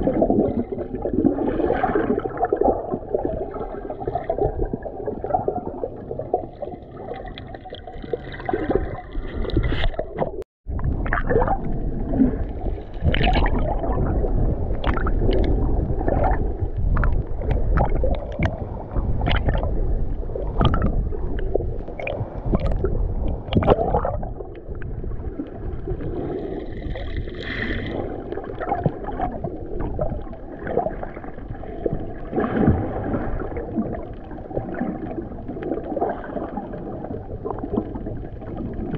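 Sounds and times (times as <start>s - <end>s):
bubbling: 0.0s - 38.9s
underwater rumble of moving water: 0.0s - 38.9s.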